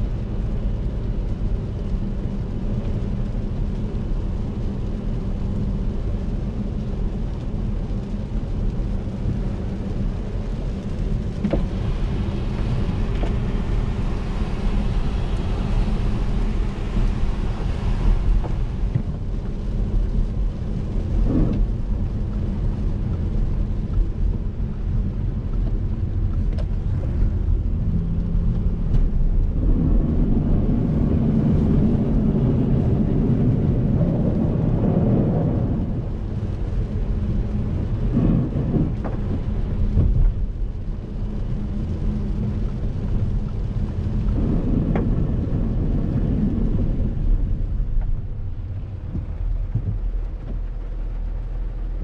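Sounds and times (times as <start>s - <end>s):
low engine drone: 0.0s - 52.0s
rain on car: 0.0s - 52.0s
tyres rumbling on wet road: 0.0s - 52.0s.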